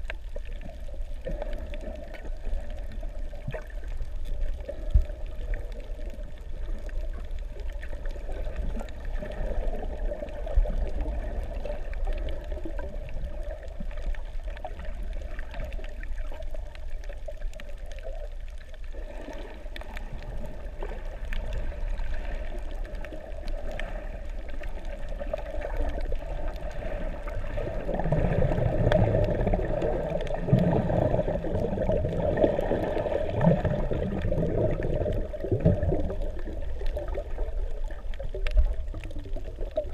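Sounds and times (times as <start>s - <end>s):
faint clicks: 0.0s - 39.9s
muffled underwater water noise: 0.0s - 39.9s.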